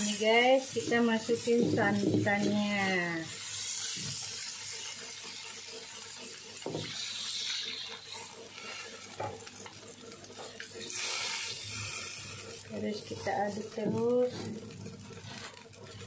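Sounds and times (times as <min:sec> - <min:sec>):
liquid hissing in hot oil: 0:00.0 - 0:16.0.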